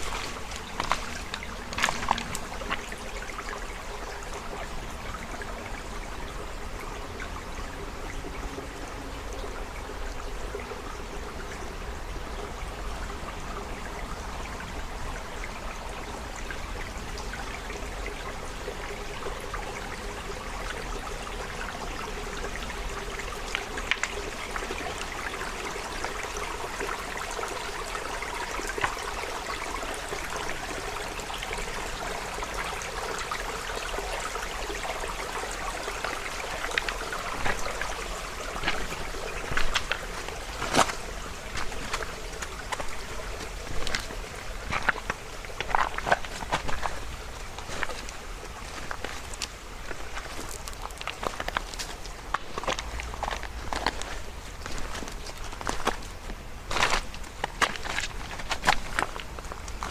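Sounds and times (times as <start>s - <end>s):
creek water flowing: 0.0s - 59.9s.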